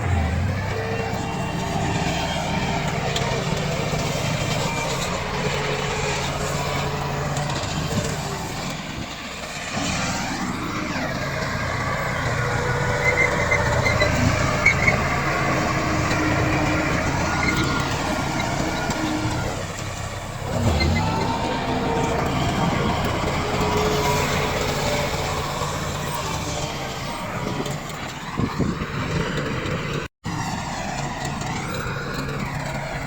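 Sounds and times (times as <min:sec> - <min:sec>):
bulldozer diesel engine: 0:00.0 - 0:33.0.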